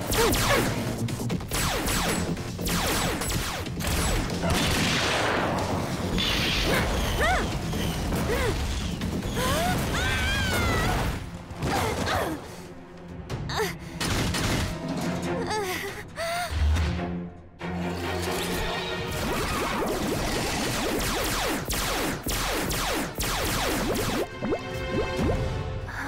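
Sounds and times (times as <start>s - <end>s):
background music: 0.0s - 26.0s.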